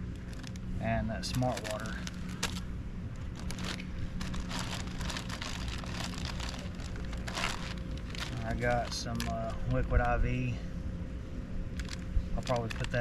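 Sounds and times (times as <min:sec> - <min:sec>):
low background rumble: 0:00.0 - 0:13.0
plastic bag crinkling: 0:00.1 - 0:10.2, 0:11.7 - 0:13.0.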